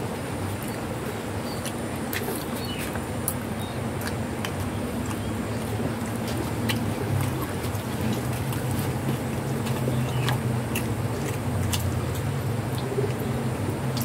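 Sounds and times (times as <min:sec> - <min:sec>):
cats chewing and licking: 0:00.0 - 0:14.0
steady low hum: 0:00.0 - 0:14.0.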